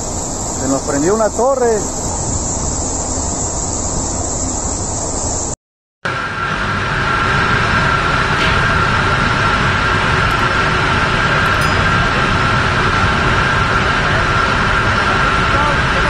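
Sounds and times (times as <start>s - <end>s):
machinery drone with high whine: 0.0s - 5.5s, 6.1s - 16.0s.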